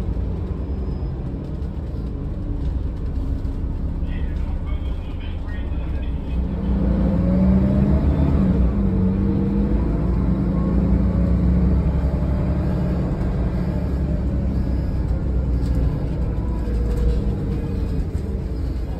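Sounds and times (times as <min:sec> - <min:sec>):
bus engine and road rumble: 0:00.0 - 0:18.9.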